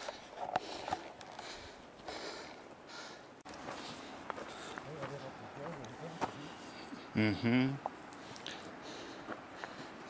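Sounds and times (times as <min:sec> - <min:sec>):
footsteps on dry dirt trail: 0:00.0 - 0:07.0, 0:08.4 - 0:10.0.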